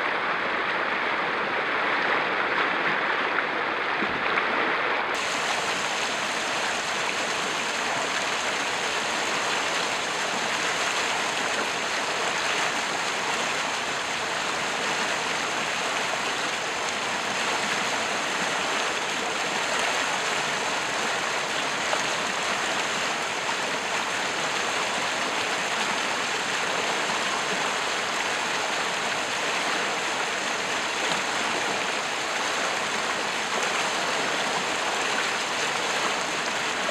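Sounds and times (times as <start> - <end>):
floodwater rushing: 0.0 - 36.9.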